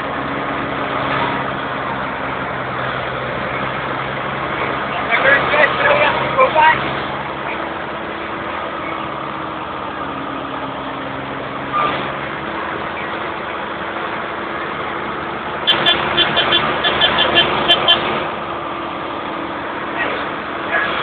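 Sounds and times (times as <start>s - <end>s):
tractor engines running: 0.0s - 21.0s.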